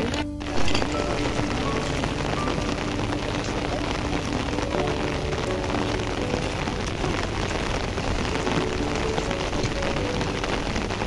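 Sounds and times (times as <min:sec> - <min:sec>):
rain on an umbrella: 0:00.0 - 0:11.0.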